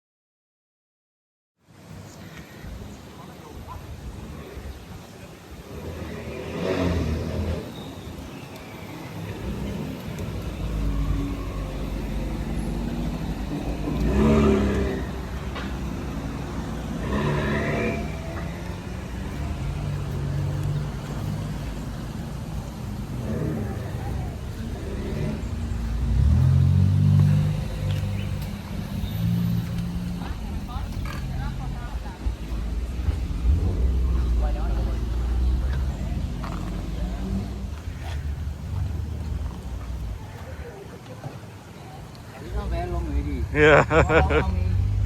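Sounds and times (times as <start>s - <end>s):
car engines rumbling: 1.9s - 45.0s
people talking: 2.1s - 6.8s, 9.3s - 45.0s.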